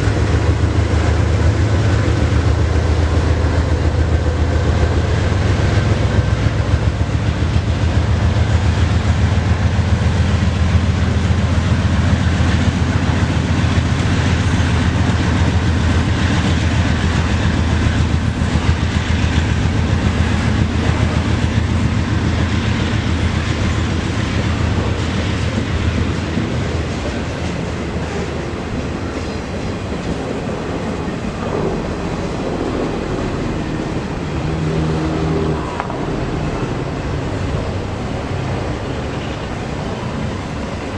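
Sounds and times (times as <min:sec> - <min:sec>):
diesel locomotive rumble: 0:00.0 - 0:40.9
rail car wheels on track: 0:00.0 - 0:40.9.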